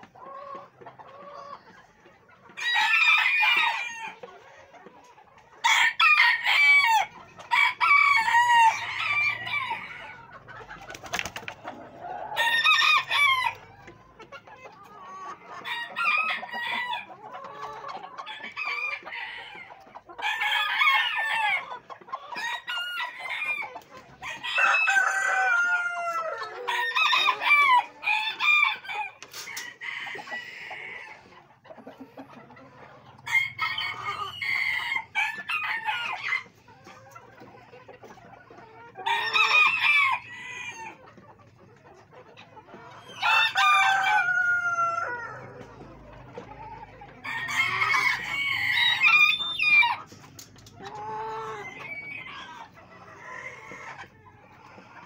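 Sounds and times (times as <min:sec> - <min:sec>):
chickens clucking and calling: 0:00.0 - 0:55.0.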